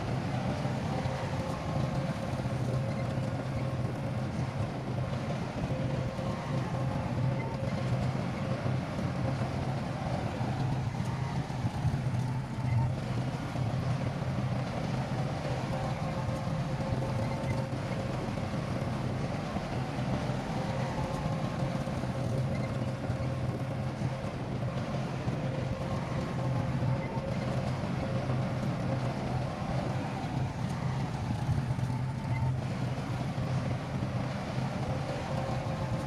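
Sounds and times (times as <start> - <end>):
diesel engine droning: 0.0 - 36.0
faint steady whine: 0.0 - 36.0.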